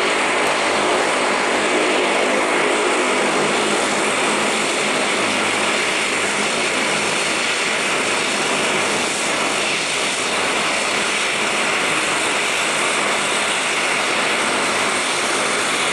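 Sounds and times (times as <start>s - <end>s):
jet engines at takeoff: 0.0s - 15.9s.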